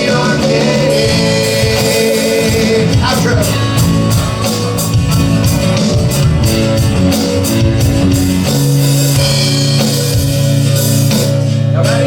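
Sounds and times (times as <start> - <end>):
live band playing: 0.0 - 12.0
steady drum beat: 0.0 - 12.0.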